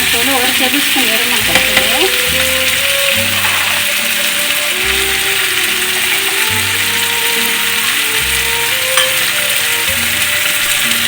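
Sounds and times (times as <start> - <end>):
background music: 0.0 - 11.0
chicken sizzling in oil: 0.0 - 11.0.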